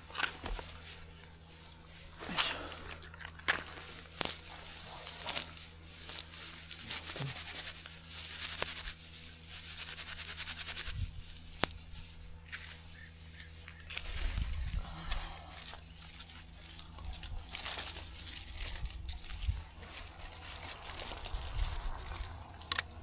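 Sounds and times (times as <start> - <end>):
dry grass rustling and crinkling: 0.0 - 23.0.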